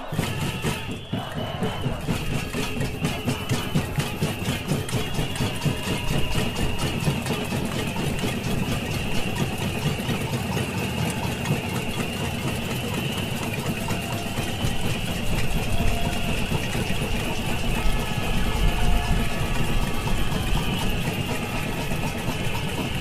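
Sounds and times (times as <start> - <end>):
samba drum group playing: 0.0 - 23.0.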